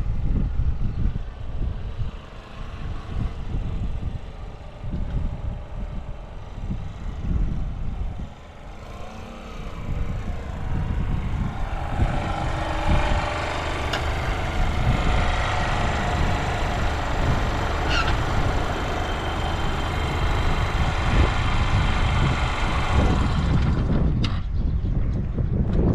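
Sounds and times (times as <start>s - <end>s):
motorcycle engine running: 0.0s - 25.9s
wind buffeting microphone: 0.0s - 25.9s.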